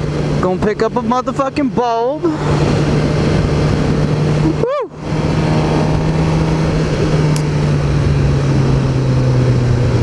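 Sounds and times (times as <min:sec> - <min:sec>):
motorcycle engine cruising: 0:00.0 - 0:10.0
rush of riding wind: 0:00.0 - 0:10.0.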